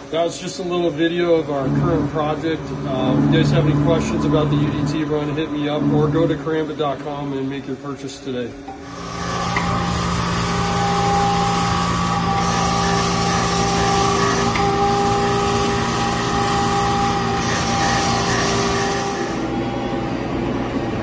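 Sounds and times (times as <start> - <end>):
surface grinder whine: 1.0 - 7.2, 8.8 - 20.9.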